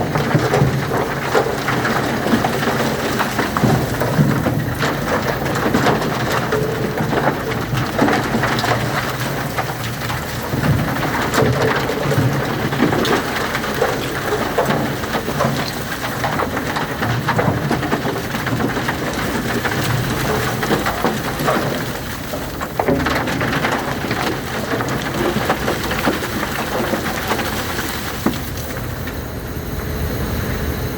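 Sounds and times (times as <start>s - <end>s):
material tumbling and rattling: 0.0s - 29.3s
concrete mixer drum humming: 0.0s - 30.9s.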